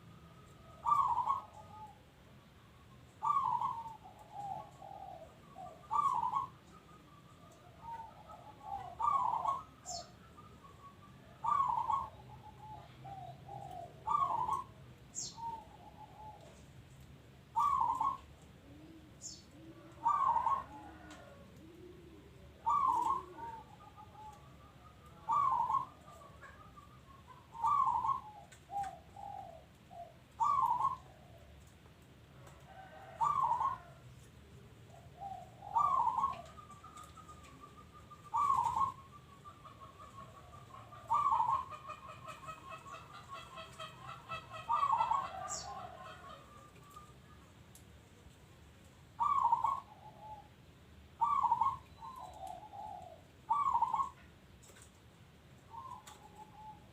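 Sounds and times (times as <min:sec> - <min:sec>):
dove cooing: 0:00.0 - 0:02.2, 0:03.1 - 0:48.3, 0:49.0 - 0:55.0, 0:55.6 - 0:56.9.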